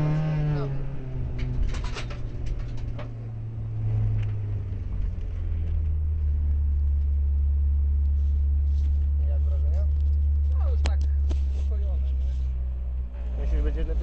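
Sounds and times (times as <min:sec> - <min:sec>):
rally car engine drone: 0:00.0 - 0:14.0.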